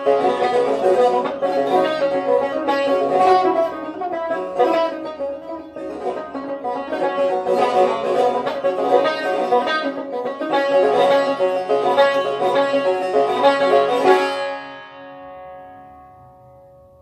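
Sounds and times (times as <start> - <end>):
lute rapid plectrum strokes: 0.0 - 14.6.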